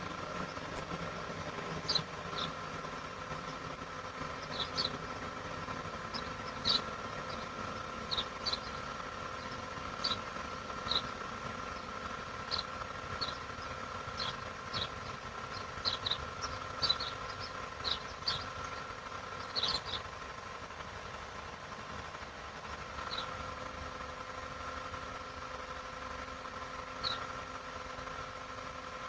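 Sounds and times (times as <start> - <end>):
small birds chirping: 0.0 - 29.0
steady background hum: 0.0 - 29.0.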